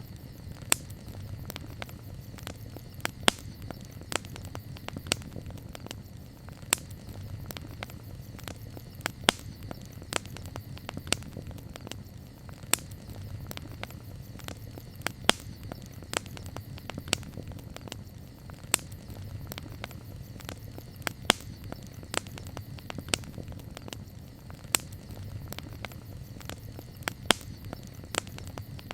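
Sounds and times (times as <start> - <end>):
campfire crackling and popping: 0.0 - 28.9
low rumble of burning wood: 0.0 - 28.9.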